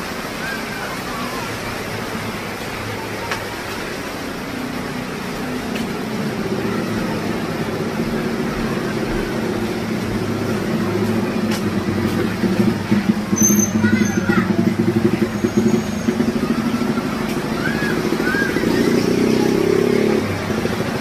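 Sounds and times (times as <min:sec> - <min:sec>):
outdoor noise rushing: 0:00.0 - 0:21.0
motor vehicle engine running: 0:03.7 - 0:21.0.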